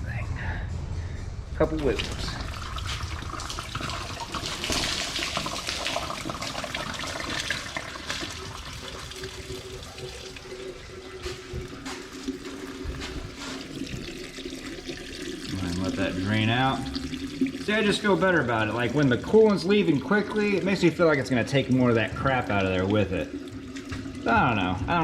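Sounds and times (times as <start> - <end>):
coolant pouring out: 1.7 - 25.0.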